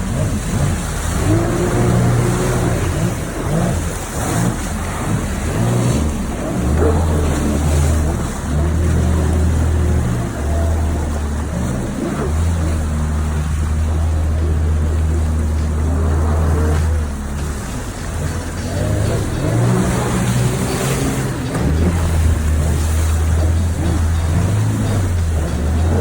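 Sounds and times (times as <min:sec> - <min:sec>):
jet ski engine: 0:00.0 - 0:26.0
rush of spray and wind: 0:00.0 - 0:26.0.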